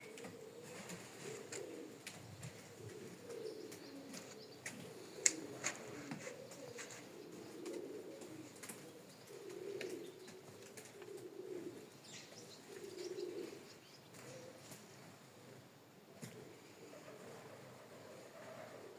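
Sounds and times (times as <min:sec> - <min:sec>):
pigeons cooing: 0:00.0 - 0:18.9.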